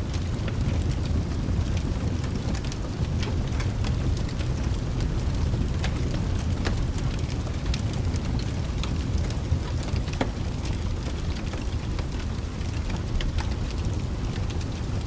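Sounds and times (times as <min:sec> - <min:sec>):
deep continuous rumble: 0:00.0 - 0:15.0
wood fire crackling: 0:00.0 - 0:15.0.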